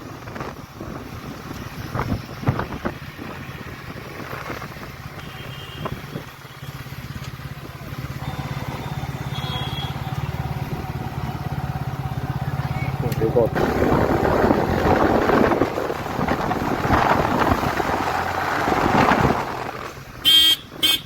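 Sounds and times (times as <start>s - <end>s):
motorcycle engine running: 0.1s - 20.6s.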